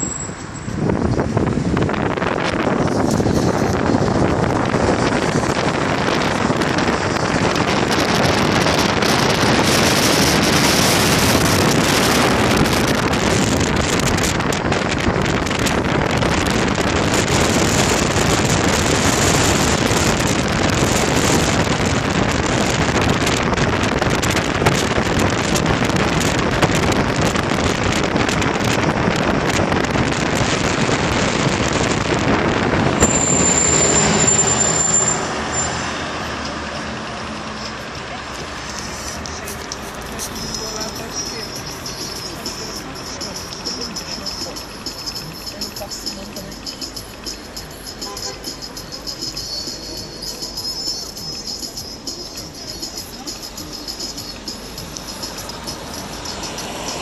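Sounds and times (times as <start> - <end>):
bus passing with high squeal: 0.0 - 57.0
road traffic: 0.0 - 57.0
wind noise on microphone: 0.0 - 57.0.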